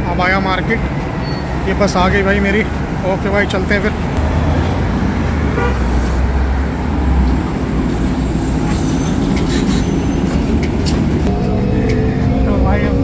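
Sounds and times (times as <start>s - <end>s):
bus engine rumble: 0.0s - 13.0s
road traffic: 0.0s - 13.0s.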